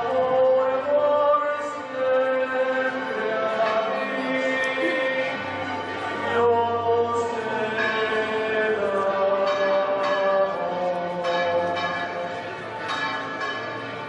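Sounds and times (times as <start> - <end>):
church bells pealing: 0.0 - 14.0.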